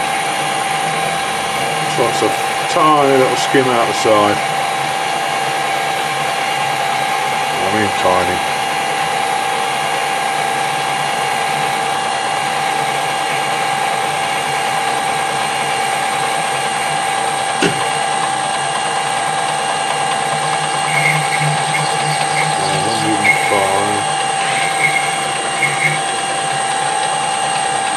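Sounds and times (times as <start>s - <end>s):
lathe whining: 0.0s - 27.9s.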